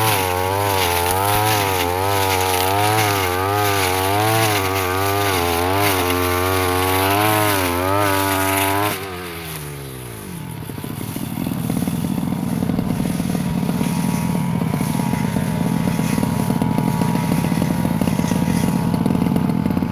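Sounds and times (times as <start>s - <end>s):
brush cutter engine running: 0.0s - 19.9s.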